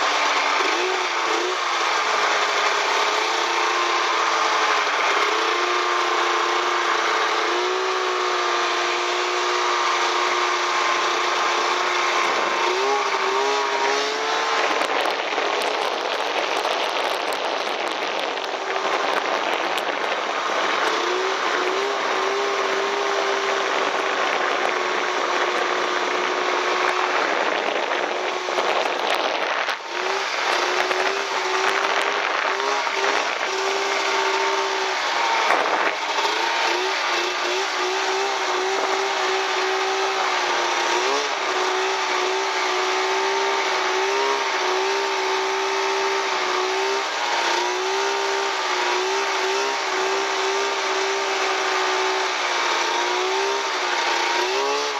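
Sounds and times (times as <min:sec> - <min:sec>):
snowmobile engine: 0:00.0 - 0:54.9
steady rushing noise: 0:00.0 - 0:54.9.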